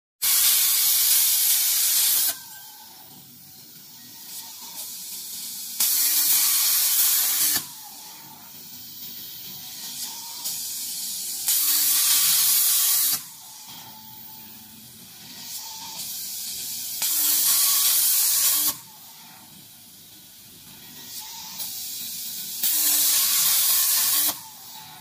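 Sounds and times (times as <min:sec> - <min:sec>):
metal cutting head hissing: 0:00.2 - 0:02.8, 0:04.2 - 0:14.3, 0:15.2 - 0:19.0, 0:21.0 - 0:25.0
quiet machine noise: 0:00.6 - 0:25.0.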